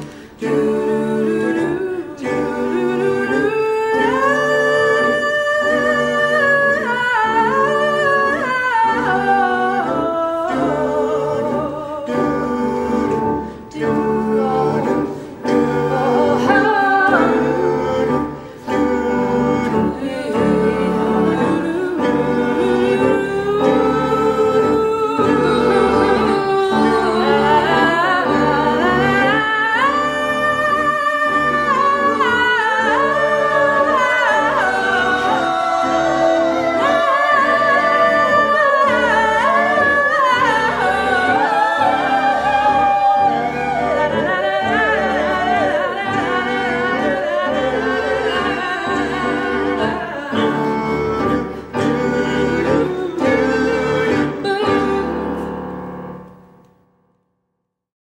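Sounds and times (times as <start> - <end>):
several voices singing: 0.0 - 56.1
music: 0.0 - 57.4.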